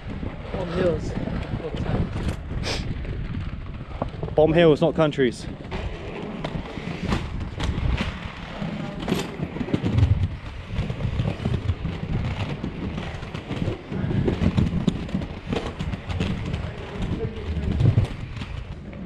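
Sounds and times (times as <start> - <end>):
skate wheels rolling on pavement: 0.0 - 19.0
wheels clicking over cracks: 0.0 - 19.0.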